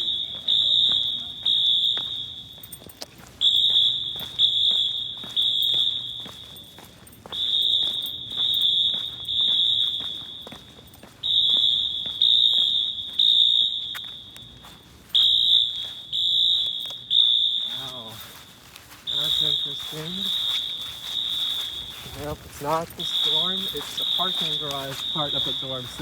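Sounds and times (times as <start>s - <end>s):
fire alarm horn blasts: 0.0s - 26.0s.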